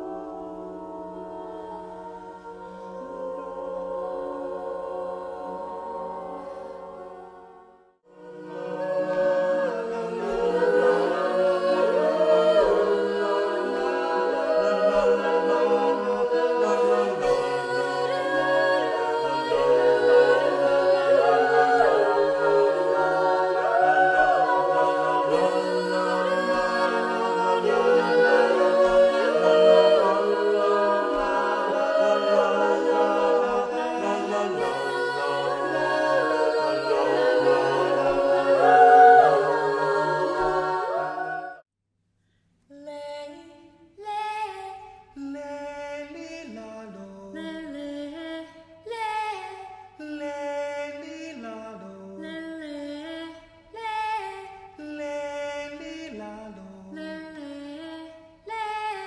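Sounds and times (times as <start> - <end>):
a cappella ensemble singing: 0.0 - 41.7, 42.7 - 59.0.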